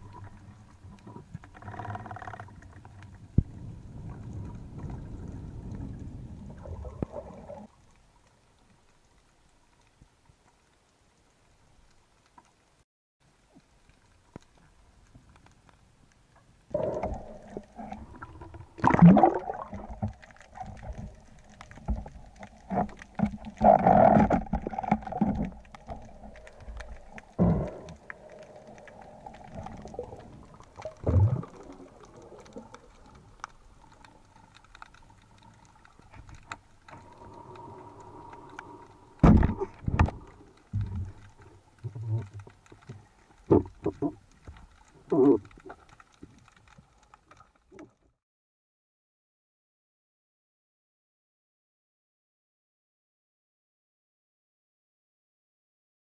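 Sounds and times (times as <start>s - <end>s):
underwater water noise: 0.0s - 48.2s.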